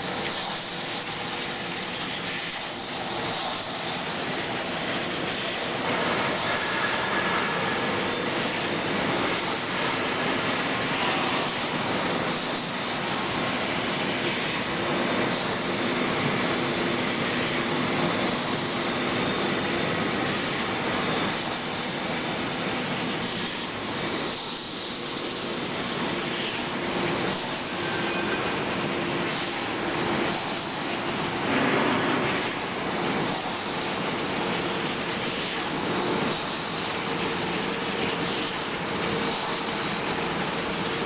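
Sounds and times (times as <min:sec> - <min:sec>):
washing machine running: 0:00.0 - 0:41.0.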